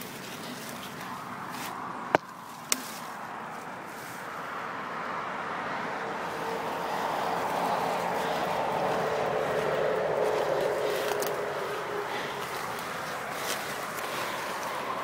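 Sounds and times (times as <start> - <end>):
leaves rustling against bike: 0.0 - 4.9, 6.1 - 15.0.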